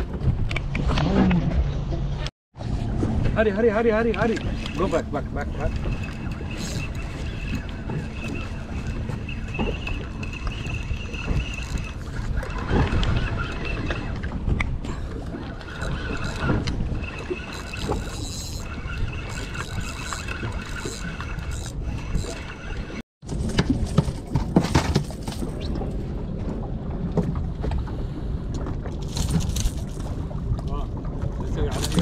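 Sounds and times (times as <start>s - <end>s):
motorboat engine running: 0.0s - 32.0s
water and hull noise: 0.0s - 32.0s.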